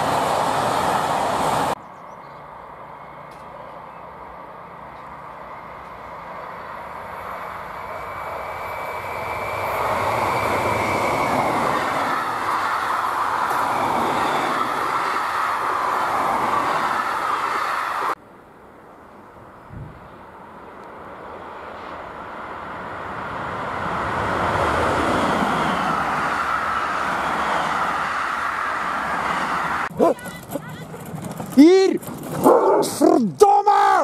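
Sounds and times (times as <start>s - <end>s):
train wheels rumbling: 2.8s - 18.2s, 21.6s - 34.0s.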